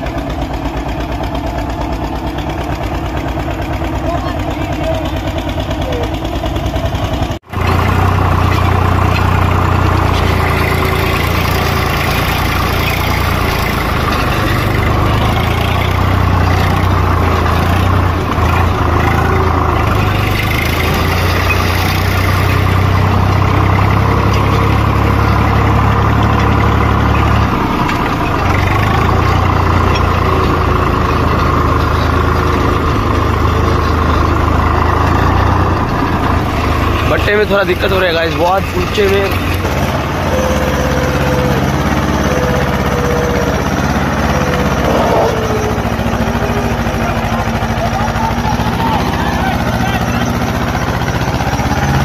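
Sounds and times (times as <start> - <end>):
diesel tractor engine running: 0.0 - 52.0.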